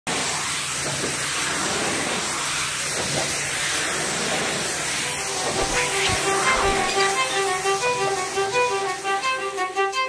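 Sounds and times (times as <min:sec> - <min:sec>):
pressure washer water jet hissing: 0:00.8 - 0:09.5.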